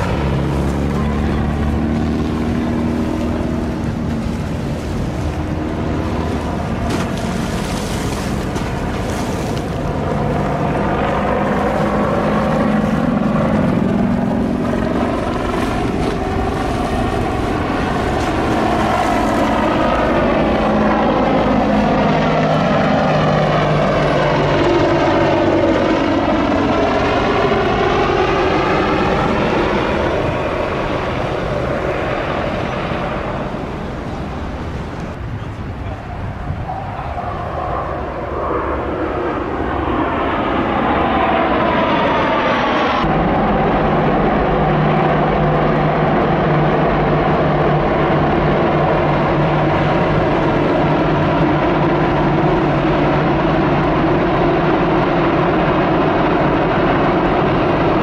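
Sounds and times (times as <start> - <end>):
helicopter flying past: 0.0 - 58.0.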